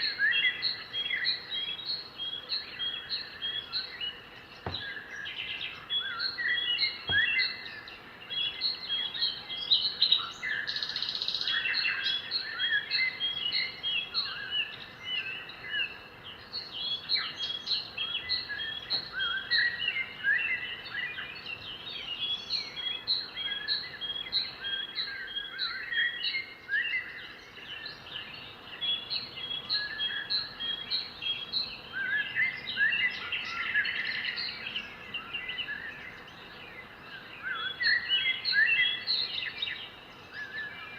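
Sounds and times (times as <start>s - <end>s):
birds chirping and whistling: 0.0s - 40.9s.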